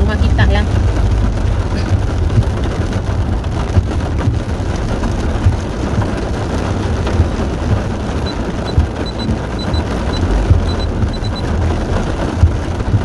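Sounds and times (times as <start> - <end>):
heavy rain on car roof: 0.0 - 13.0
steady low rumble: 0.0 - 13.0.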